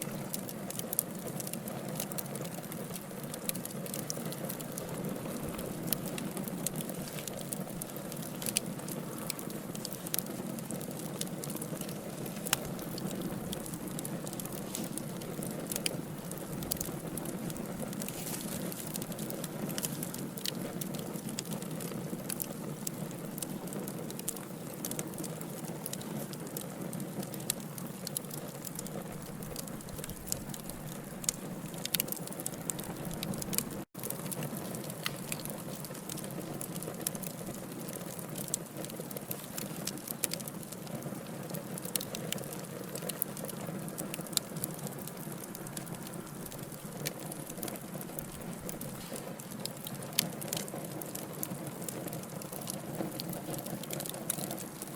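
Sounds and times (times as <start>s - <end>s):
wood fire crackling and popping: 0.0s - 54.9s.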